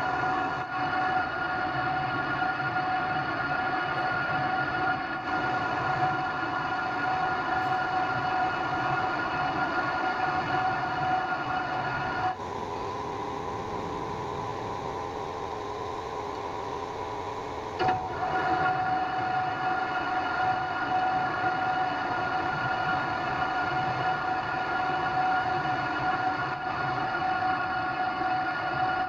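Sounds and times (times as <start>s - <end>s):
lathe humming and whining: 0.0s - 29.0s.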